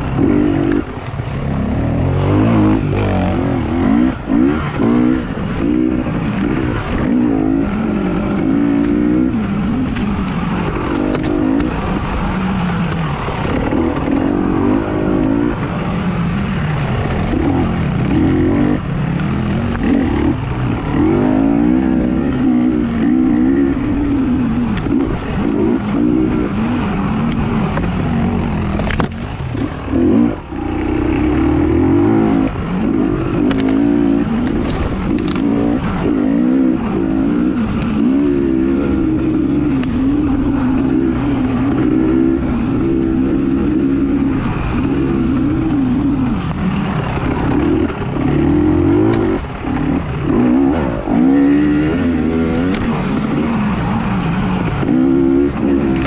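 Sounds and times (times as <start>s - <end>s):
racing engine revving: 0.0s - 56.0s.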